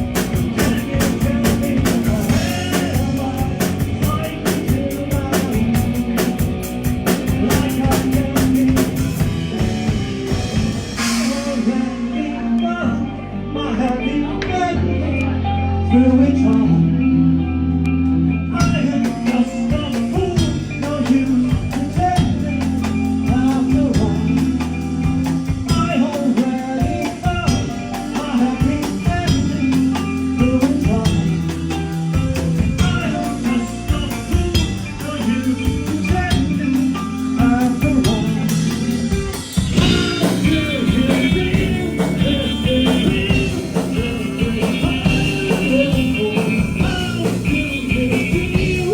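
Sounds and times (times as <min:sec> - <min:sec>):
drums and cymbals: 0:00.0 - 0:12.1, 0:18.6 - 0:48.9
bass notes: 0:00.0 - 0:48.9
electric guitar: 0:00.0 - 0:48.9.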